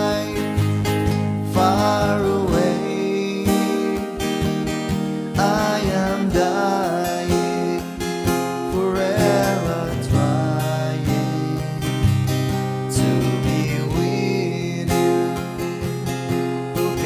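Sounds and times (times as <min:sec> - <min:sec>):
person singing: 0:00.0 - 0:15.8, 0:16.7 - 0:17.0
acoustic guitar strumming: 0:00.0 - 0:17.0.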